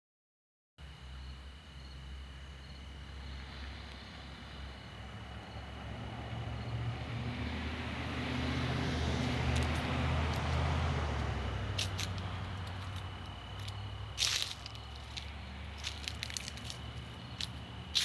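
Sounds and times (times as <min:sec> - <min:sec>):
high insect trill: 0:00.8 - 0:18.0
vehicle engine passing by: 0:03.2 - 0:18.0.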